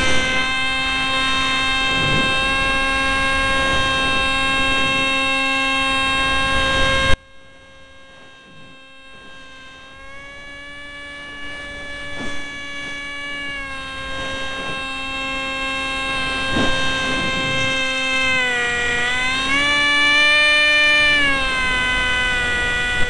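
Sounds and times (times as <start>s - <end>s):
electric motor and propeller whine: 0.0s - 23.0s.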